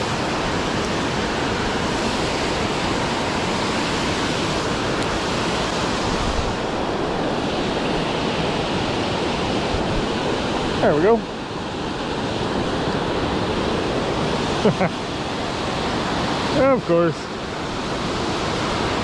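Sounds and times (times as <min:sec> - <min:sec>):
water rushing over dam spillway: 0:00.0 - 0:19.0.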